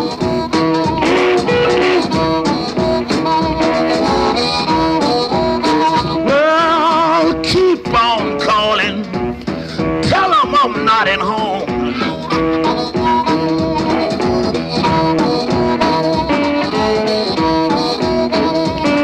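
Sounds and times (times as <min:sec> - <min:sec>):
electric guitar riff: 0:00.0 - 0:19.0
harmonica wailing: 0:00.0 - 0:19.0.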